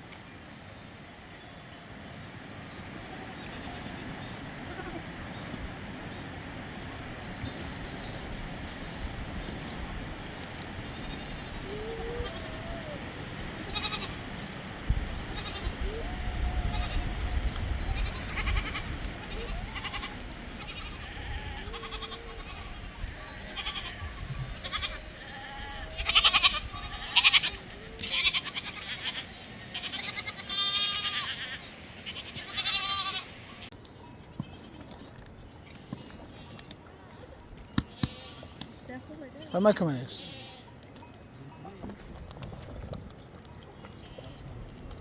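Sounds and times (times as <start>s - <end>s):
goats and sheep bleating: 3.0s - 5.9s, 9.5s - 42.7s, 43.4s - 45.0s.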